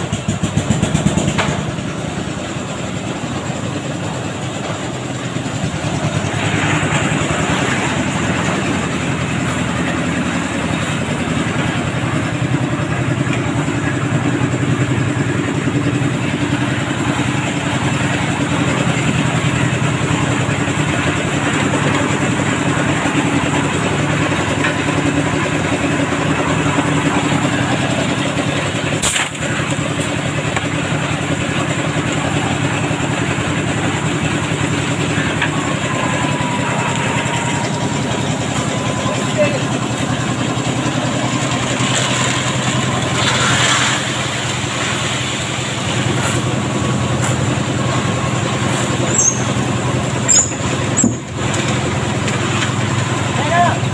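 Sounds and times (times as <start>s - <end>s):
concrete mixer running: 0.0s - 53.9s.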